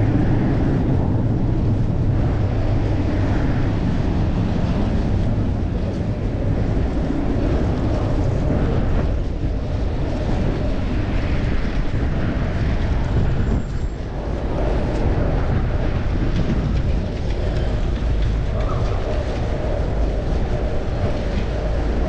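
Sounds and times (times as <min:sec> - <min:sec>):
road noise: 0:00.0 - 0:22.0
wind rumble on microphone: 0:00.0 - 0:22.0.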